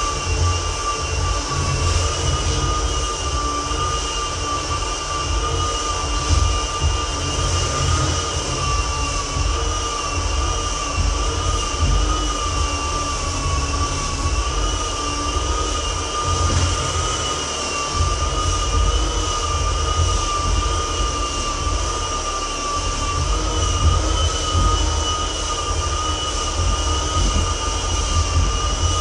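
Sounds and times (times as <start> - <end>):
floor edger motor whine: 0.0 - 29.0
sanding disc grinding wood: 0.0 - 29.0.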